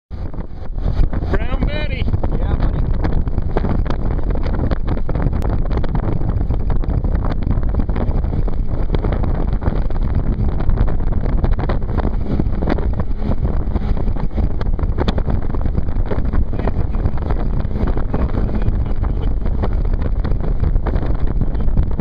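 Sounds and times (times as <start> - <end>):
wind rumbling on microphone: 0.1 - 22.0.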